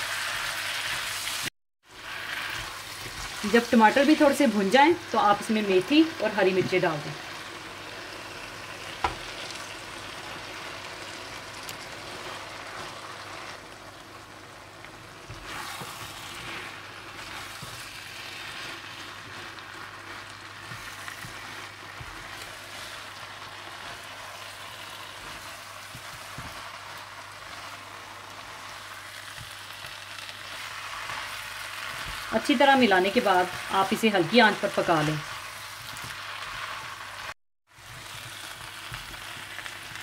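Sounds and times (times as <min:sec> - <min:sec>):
food sizzling in hot oil: 0:00.0 - 0:40.0.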